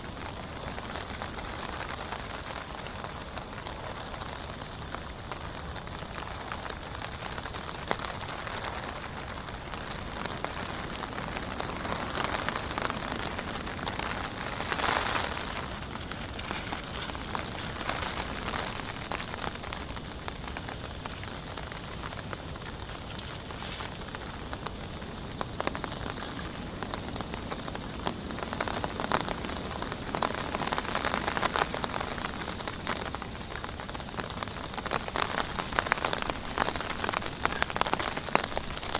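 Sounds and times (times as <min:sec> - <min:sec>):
heavy rain falling: 0:00.0 - 0:38.9
raindrops ticking on surface: 0:00.0 - 0:38.9.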